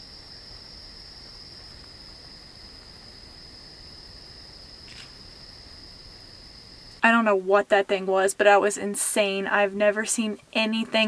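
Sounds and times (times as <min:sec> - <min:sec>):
crickets chorusing: 0:00.0 - 0:11.0.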